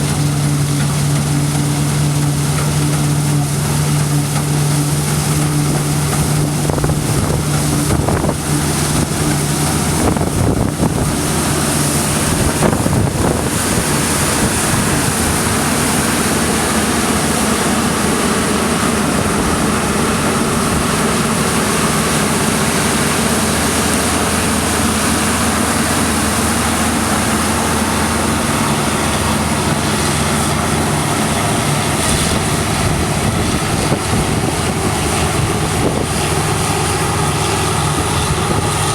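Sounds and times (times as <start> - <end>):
broad rushing noise: 0.0 - 38.9
combine harvester engine hum: 0.0 - 38.9
wind buffeting microphone: 4.4 - 38.9.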